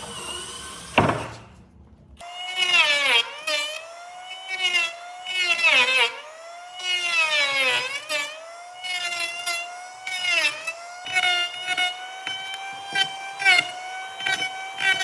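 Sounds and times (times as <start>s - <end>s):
power tool motor whining: 0.0s - 1.6s, 2.2s - 15.0s.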